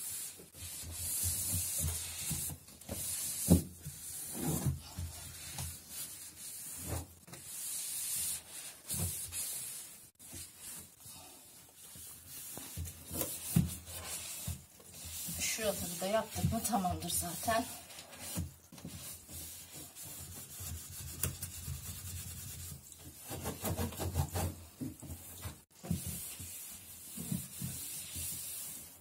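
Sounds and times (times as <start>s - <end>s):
cloth wiping plastic: 0.0s - 24.5s.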